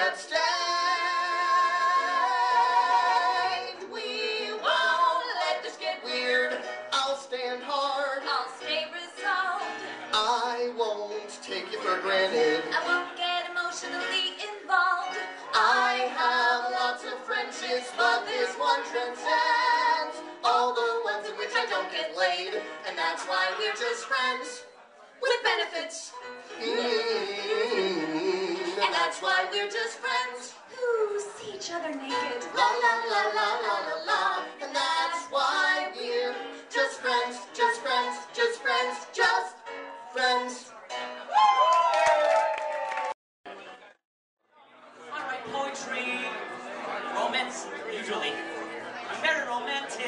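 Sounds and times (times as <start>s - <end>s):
man and woman singing duet: 0.0s - 40.7s.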